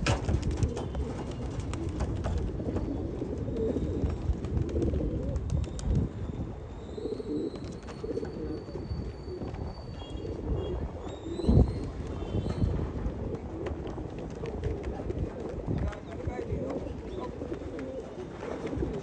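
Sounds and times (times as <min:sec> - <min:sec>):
pigeons cooing: 0:00.6 - 0:05.6, 0:06.4 - 0:15.5, 0:16.4 - 0:19.0.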